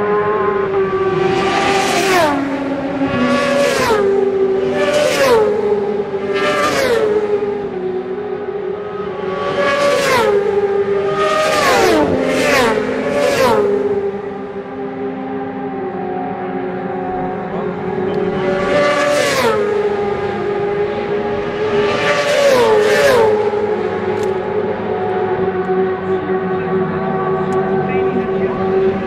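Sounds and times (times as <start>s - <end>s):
racing motorcycles passing: 0.0s - 29.0s.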